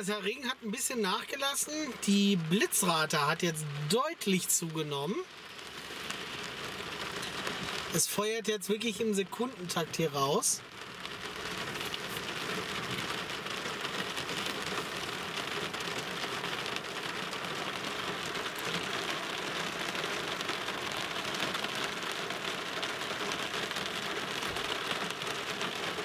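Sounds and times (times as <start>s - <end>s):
rain on car roof: 0.0s - 26.0s.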